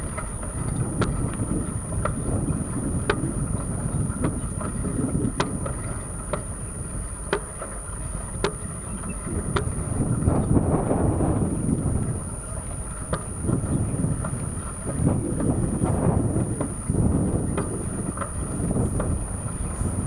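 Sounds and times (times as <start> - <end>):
faint high whine: 0.0 - 20.0
wind rumble on microphone: 0.0 - 20.0.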